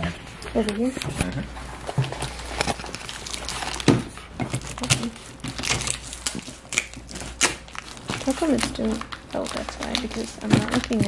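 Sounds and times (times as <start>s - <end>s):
low steady hum: 0.0s - 11.0s
packaging rustling: 0.5s - 11.0s.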